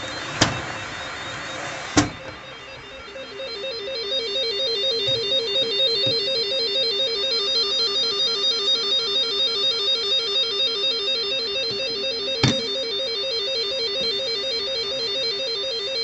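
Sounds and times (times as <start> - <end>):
two-tone electronic alert: 0.0 - 16.0.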